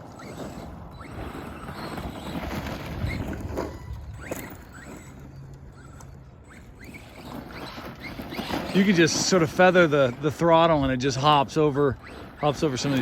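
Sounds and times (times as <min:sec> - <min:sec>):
electric motor whining: 0:00.0 - 0:13.0
rc truck rattling over ground: 0:00.0 - 0:13.0.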